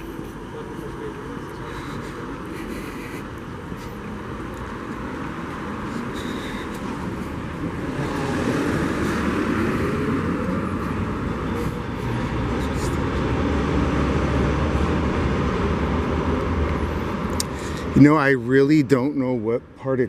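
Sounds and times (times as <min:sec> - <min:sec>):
deep vehicle rumble: 0:00.0 - 0:18.0
vehicle motor whine: 0:00.0 - 0:18.0.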